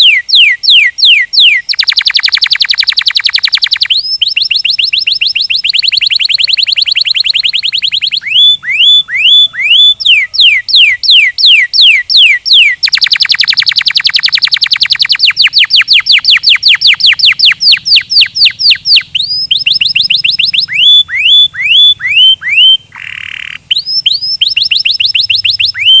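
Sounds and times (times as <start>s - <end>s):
canary singing trills: 0.0s - 26.0s.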